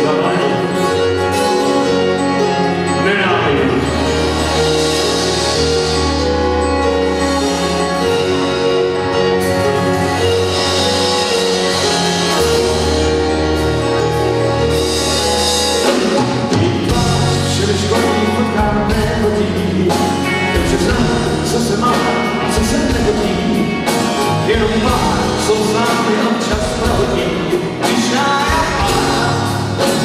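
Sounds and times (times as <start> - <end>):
rock band playing: 0.0 - 30.0
drum kit: 1.2 - 30.0.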